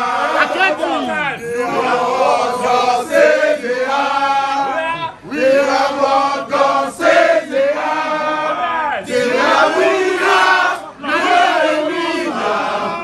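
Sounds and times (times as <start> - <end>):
men chanting and singing: 0.0 - 13.0.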